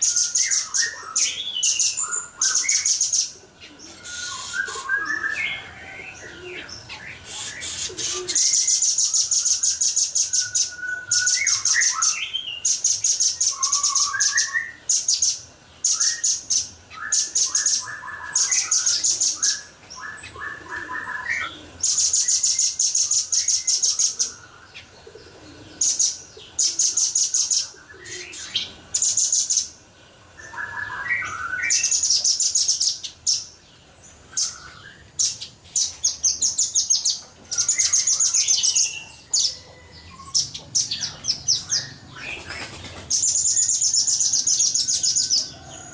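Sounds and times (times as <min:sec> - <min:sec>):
bird singing high-pitched trills: 0:00.0 - 0:25.2, 0:25.8 - 0:45.9
bird chirps: 0:00.0 - 0:45.9.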